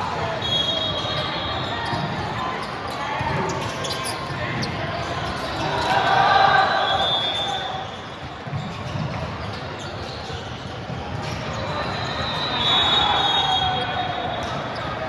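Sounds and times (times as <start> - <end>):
voices of players and spectators: 0.0 - 15.0.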